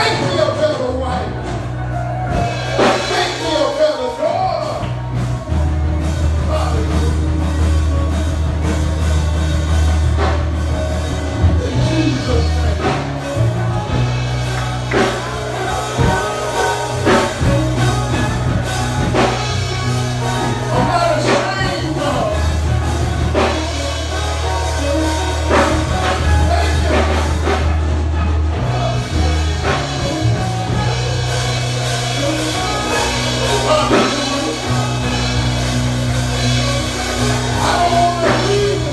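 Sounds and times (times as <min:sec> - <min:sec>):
bass line: 0:00.0 - 0:38.9
gospel band playing: 0:00.0 - 0:38.9
voices singing: 0:00.0 - 0:38.9.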